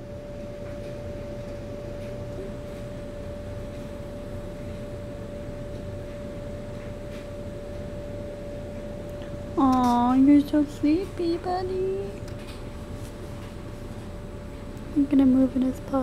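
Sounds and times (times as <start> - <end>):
steady single-pitched hum: 0.0 - 16.0.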